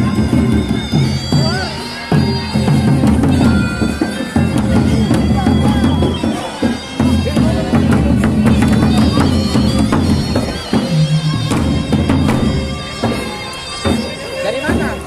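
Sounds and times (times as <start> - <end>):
barrel drums beaten: 0.0 - 15.0
shrill reedy wind instrument: 0.0 - 15.0.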